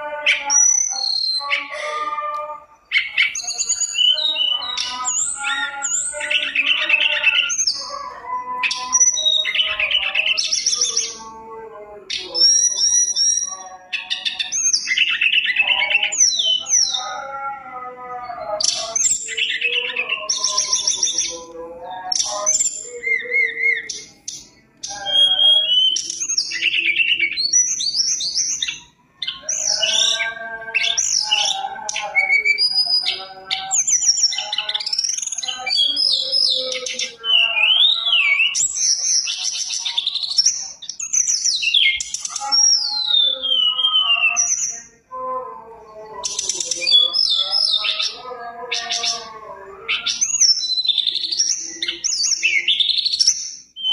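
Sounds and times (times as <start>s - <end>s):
bird singing whistles and trills: 0.0s - 2.0s, 2.9s - 8.0s, 8.6s - 11.2s, 12.1s - 17.0s, 22.1s - 45.0s, 46.1s - 49.3s, 49.9s - 53.9s.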